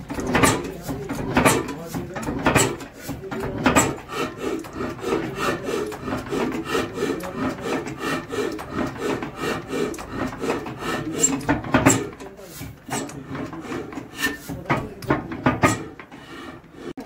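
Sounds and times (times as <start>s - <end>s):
engine knock: 0.0s - 16.8s
diesel engine chugging: 0.0s - 16.9s.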